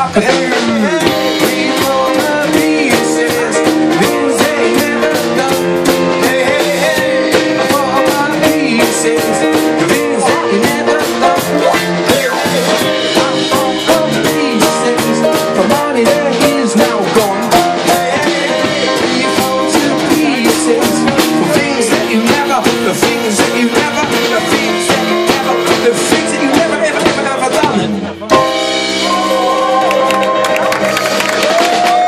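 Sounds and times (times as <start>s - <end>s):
drum kit with cymbal strokes: 0.0s - 29.5s
man singing: 0.0s - 30.6s
guitar: 0.0s - 32.0s.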